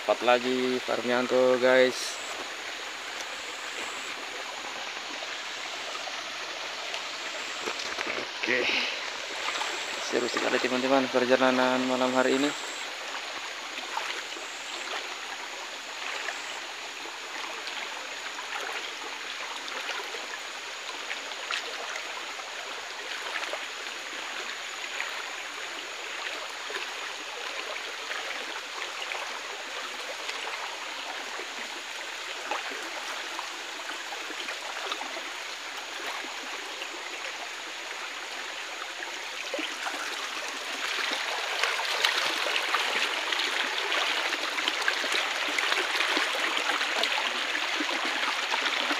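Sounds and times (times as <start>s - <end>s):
stream trickling over rocks: 0.0s - 48.9s.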